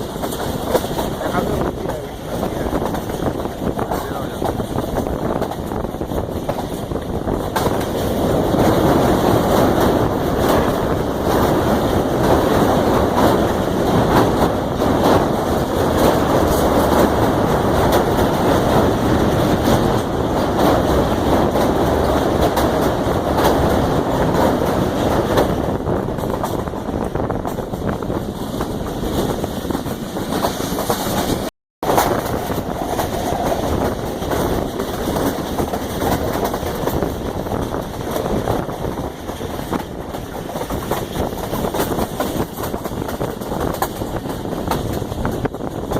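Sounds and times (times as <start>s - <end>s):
train carriage rumble and rattle: 0.0s - 45.9s
wheels clicking over rail joints: 0.0s - 45.9s.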